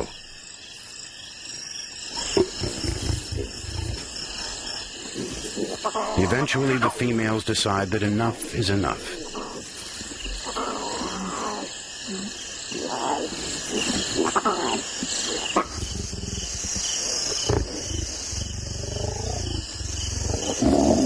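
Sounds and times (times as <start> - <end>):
lionesses growling and snarling: 2.1 - 7.4, 8.3 - 21.0.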